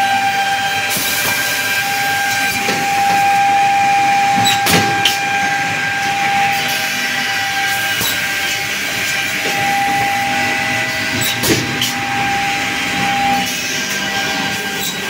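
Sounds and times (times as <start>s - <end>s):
motor whine: 0.0s - 15.0s
machine hissing din: 0.9s - 15.0s.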